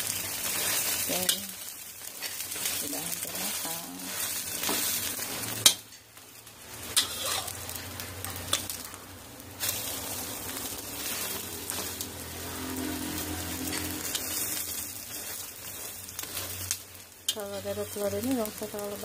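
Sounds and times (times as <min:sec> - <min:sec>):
omelette sizzling in oil: 0:00.0 - 0:19.0.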